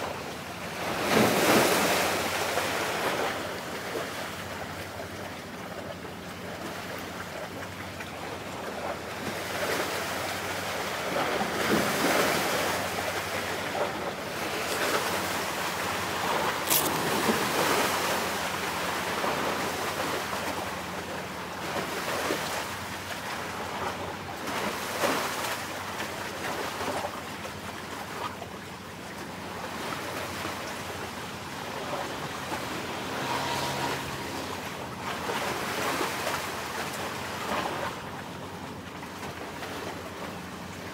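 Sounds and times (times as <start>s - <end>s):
sea waves washing: 0.0s - 4.8s, 8.8s - 27.0s, 29.3s - 40.8s
faint low engine hum: 0.0s - 40.9s.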